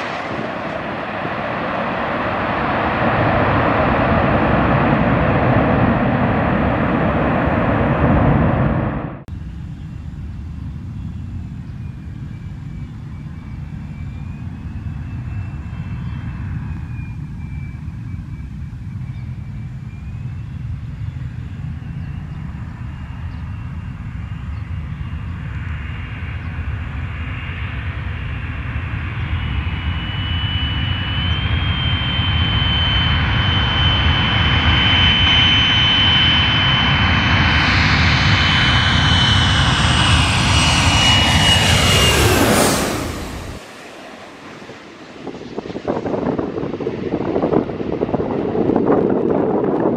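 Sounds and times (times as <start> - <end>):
aircraft engine rumble: 0.0 - 49.9.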